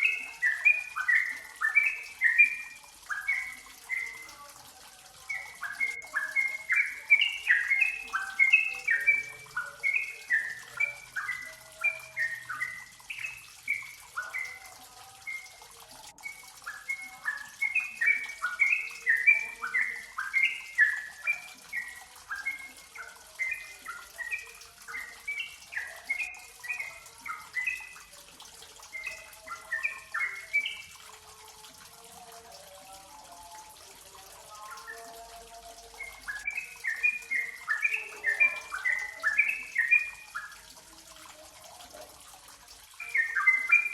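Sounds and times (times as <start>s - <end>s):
bird chirping: 0.0s - 31.4s, 32.5s - 42.0s, 43.0s - 43.9s.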